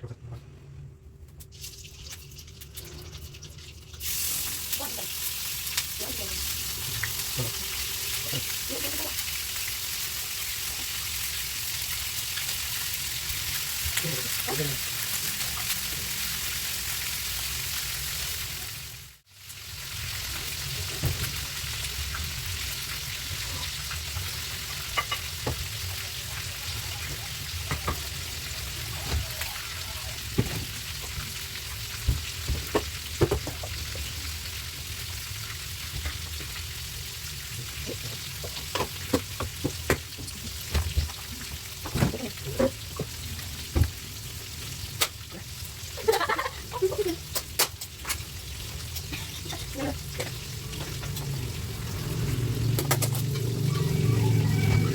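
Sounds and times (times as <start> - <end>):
food sizzling in a pan: 1.7 - 54.9.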